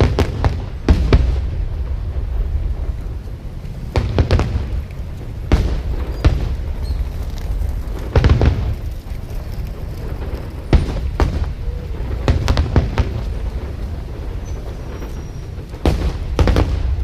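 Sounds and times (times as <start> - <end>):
fireworks booming: 0.0 - 17.0
low rumble: 0.0 - 17.0.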